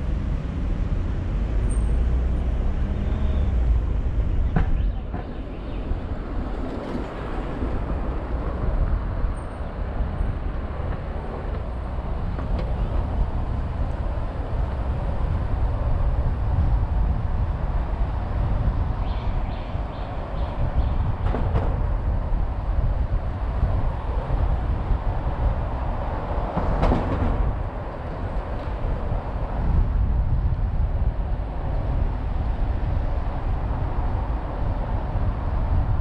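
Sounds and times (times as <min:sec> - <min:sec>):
car tyres and engine rumble: 0:00.0 - 0:36.0.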